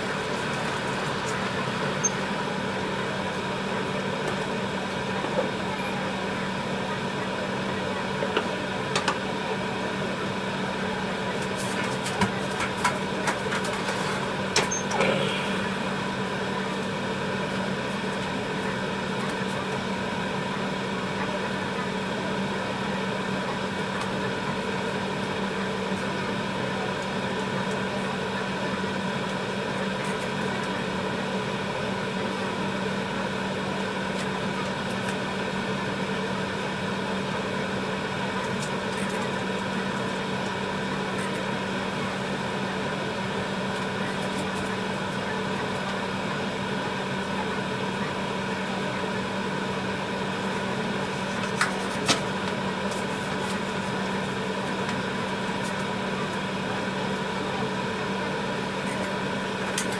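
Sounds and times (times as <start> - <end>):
kitchen equipment humming: 0.0 - 59.9.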